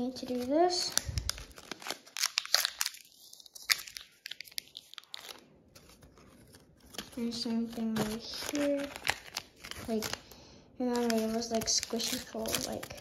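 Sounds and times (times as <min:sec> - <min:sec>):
paper crinkling and crackling: 0:00.0 - 0:13.0.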